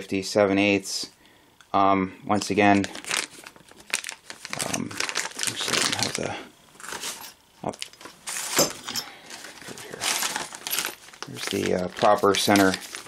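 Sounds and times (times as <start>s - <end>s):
plastic bag crinkling: 2.5s - 13.0s.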